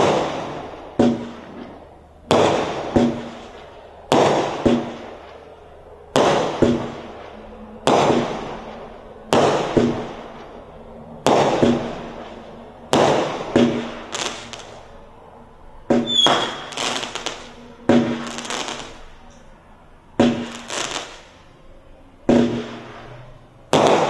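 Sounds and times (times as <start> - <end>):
firework sharp bangs: 0.0 - 15.1, 15.8 - 19.3, 20.2 - 21.6, 22.2 - 24.0
rush of firework noise: 0.0 - 19.4, 20.0 - 24.0.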